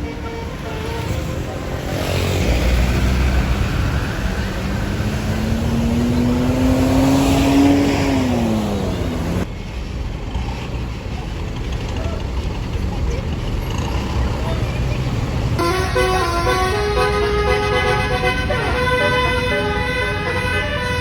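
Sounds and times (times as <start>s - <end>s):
diesel bus engine pulling away: 0.0s - 21.0s.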